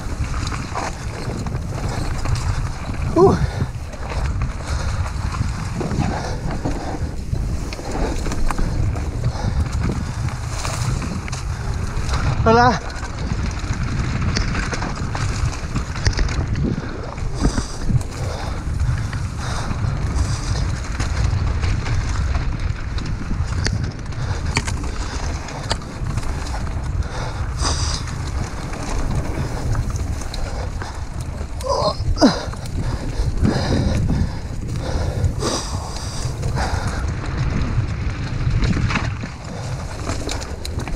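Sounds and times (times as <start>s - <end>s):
bike rattling on trail: 0.0s - 40.9s
wind buffeting microphone: 0.0s - 40.9s.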